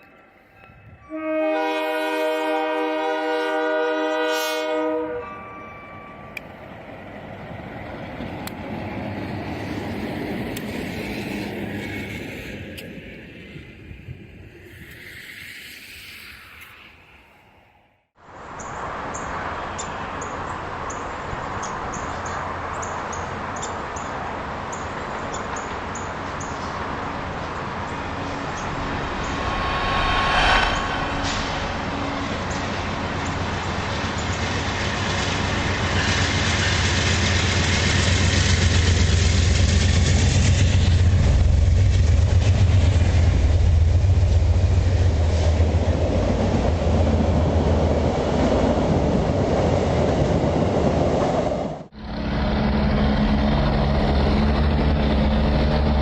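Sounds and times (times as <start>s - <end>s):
train rolling on rails: 0.0s - 56.0s.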